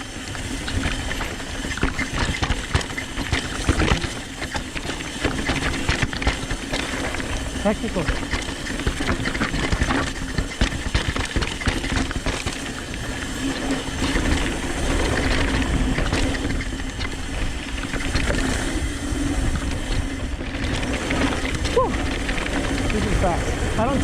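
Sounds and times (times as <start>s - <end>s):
bike frame and chain rattling: 0.0s - 24.0s
tyres crunching over dirt and rocks: 0.0s - 24.0s.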